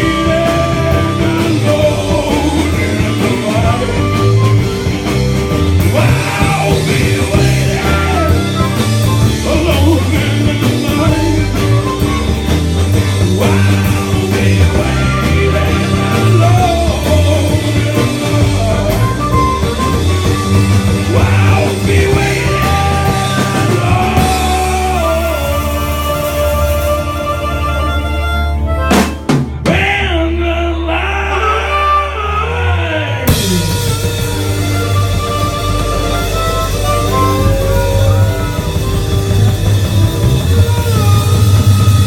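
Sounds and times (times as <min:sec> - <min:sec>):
guitar melody: 0:00.0 - 0:29.8, 0:33.3 - 0:42.0
bass: 0:00.0 - 0:42.0
drums: 0:00.0 - 0:42.0.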